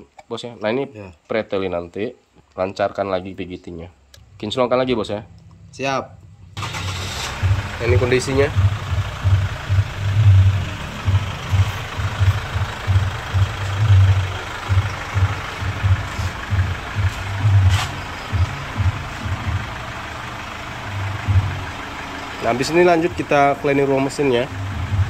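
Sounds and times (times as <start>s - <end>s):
engine running with low throb: 4.0s - 25.0s.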